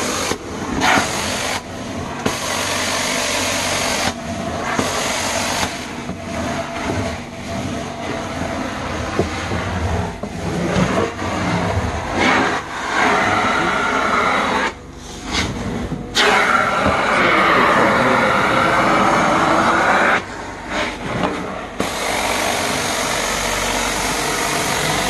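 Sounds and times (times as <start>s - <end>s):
vacuum cleaner on carpet: 0.0s - 15.5s, 16.1s - 25.0s.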